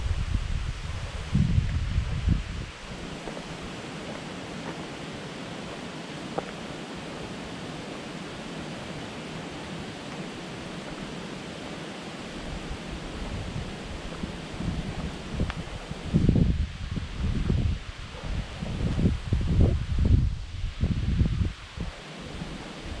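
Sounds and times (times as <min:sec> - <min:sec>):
steady rushing outdoor noise: 0:00.0 - 0:23.0.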